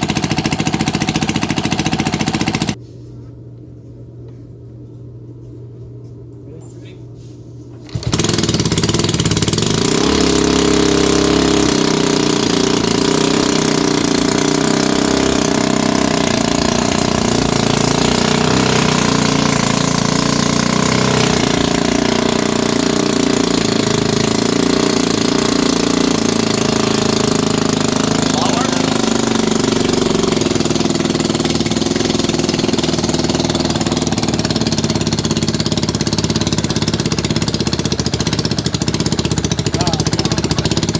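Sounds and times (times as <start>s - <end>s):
small engine running: 0.0s - 2.8s, 7.9s - 40.9s.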